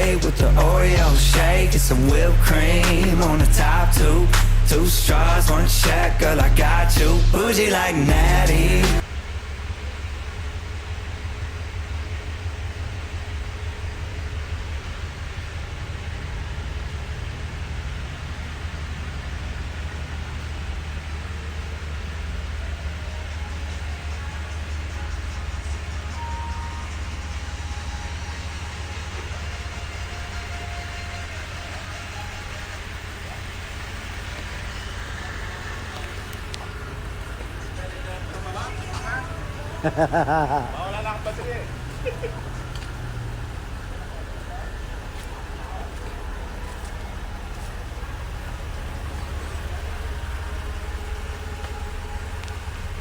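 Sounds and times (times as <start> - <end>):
road noise: 0.0 - 53.0
truck engine rumble: 0.0 - 53.0.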